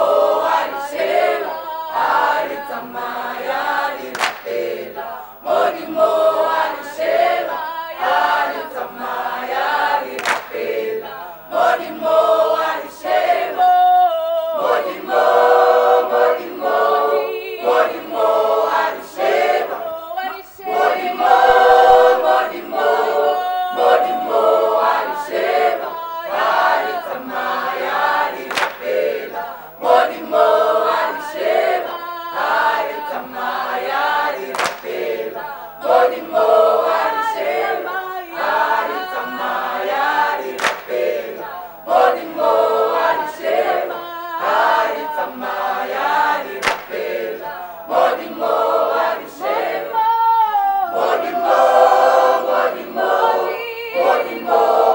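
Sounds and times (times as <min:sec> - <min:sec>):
choir singing gospel: 0:00.0 - 0:54.9.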